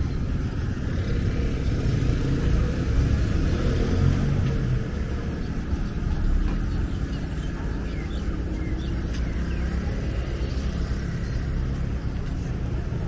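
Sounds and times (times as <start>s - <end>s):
scooters and cars passing: 0.0s - 13.0s.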